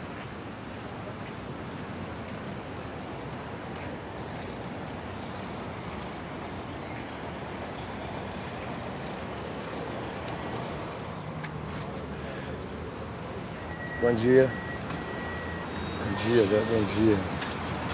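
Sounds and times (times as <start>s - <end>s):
road traffic noise: 0.0s - 17.9s
vehicles passing: 0.0s - 17.9s.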